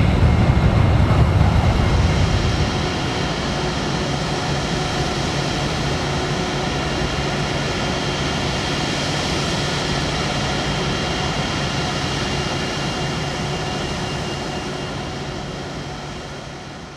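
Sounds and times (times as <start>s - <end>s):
jet engines whining: 0.0s - 16.8s.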